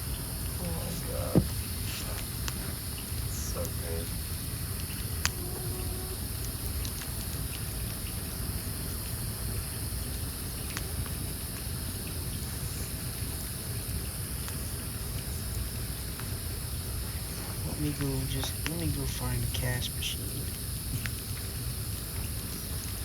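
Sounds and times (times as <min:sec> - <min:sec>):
campfire crackling: 0:00.0 - 0:23.0
insects chirring: 0:00.0 - 0:23.0.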